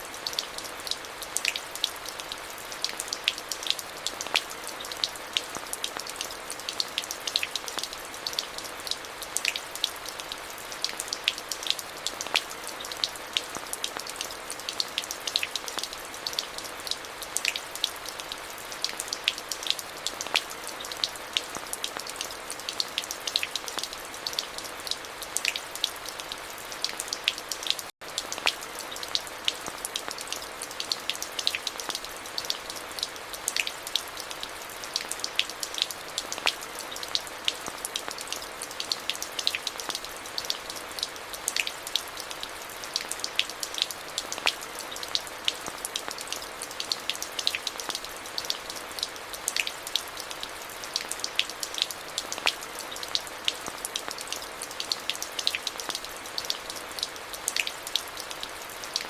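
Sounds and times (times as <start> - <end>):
steady rain with dripping ticks: 0.0 - 59.0.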